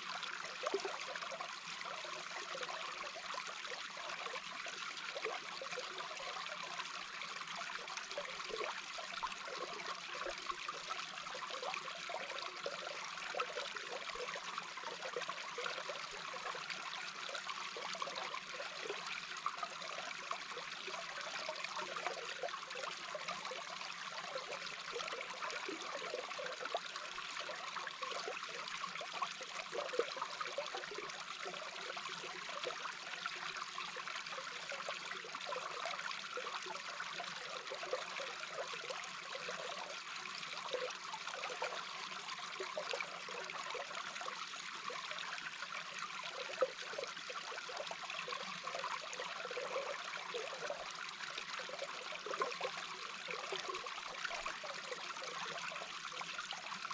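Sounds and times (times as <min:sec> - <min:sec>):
flowing water underwater: 0:00.0 - 0:56.9
small bubbling sounds: 0:00.0 - 0:56.9.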